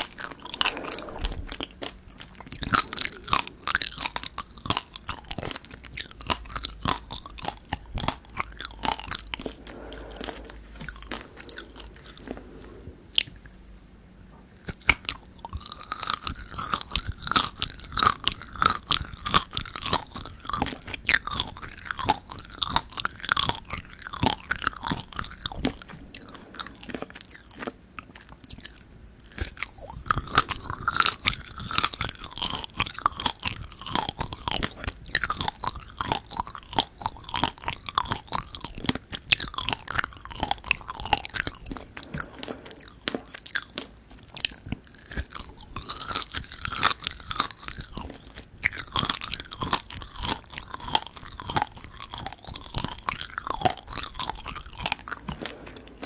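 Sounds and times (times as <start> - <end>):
seeds crunching: 0.0 - 12.5, 14.6 - 56.0
biting into fruit: 0.0 - 13.4, 14.6 - 56.0
close chewing mouth sounds: 0.0 - 56.0.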